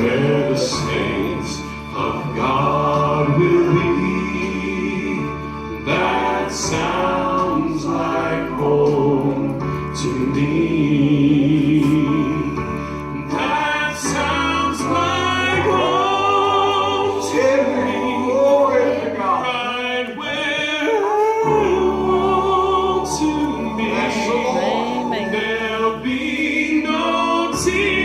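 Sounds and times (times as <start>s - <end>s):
gospel voices singing: 0.0s - 28.0s.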